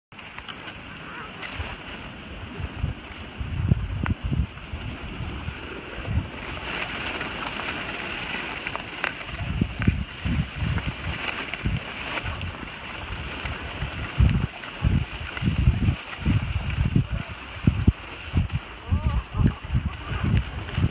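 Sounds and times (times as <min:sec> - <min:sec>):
skis scraping over snow: 0:00.2 - 0:20.9
wind buffeting microphone: 0:00.2 - 0:20.9.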